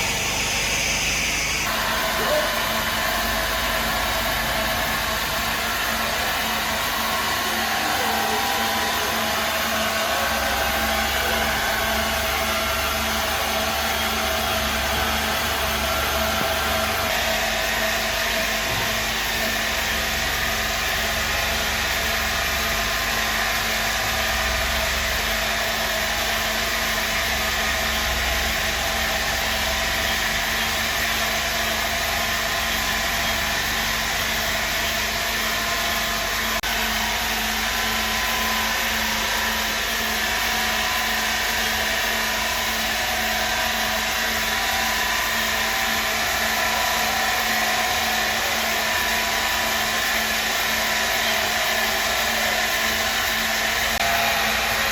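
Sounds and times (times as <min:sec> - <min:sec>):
machine droning with hiss: 0:00.0 - 0:54.9.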